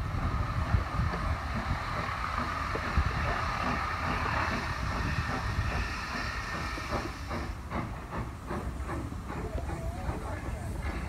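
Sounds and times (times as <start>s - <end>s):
steam hissing: 0.0s - 11.0s
steam locomotive chuffing: 0.0s - 11.0s.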